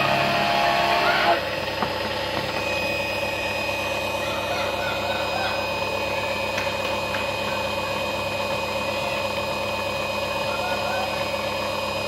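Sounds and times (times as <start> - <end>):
high motor whine: 0.0 - 12.0
washing machine motor humming: 0.0 - 12.0.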